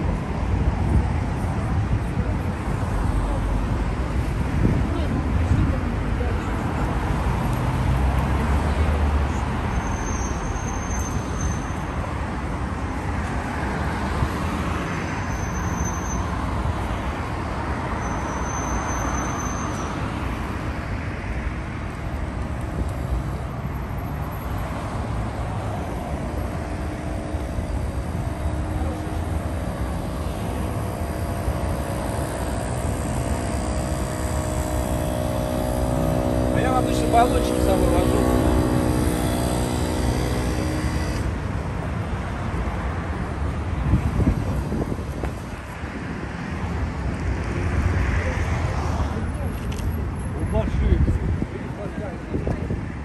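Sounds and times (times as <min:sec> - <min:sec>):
cars driving past: 0:00.0 - 0:53.0.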